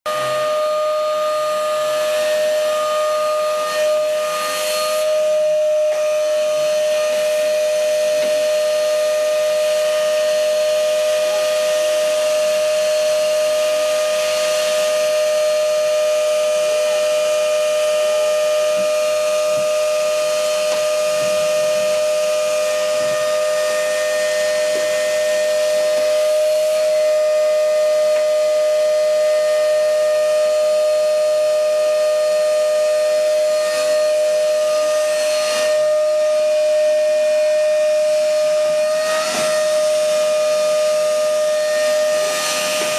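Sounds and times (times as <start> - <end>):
air hissing through vacuum hose: 0.1 - 42.9
vacuum cleaner motor whine: 0.1 - 42.9.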